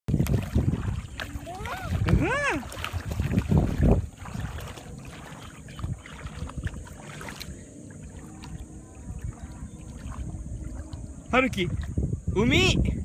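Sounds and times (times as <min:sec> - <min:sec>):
seawater sloshing and splashing: 0:00.1 - 0:12.0
wind rumble on microphone: 0:00.1 - 0:13.0.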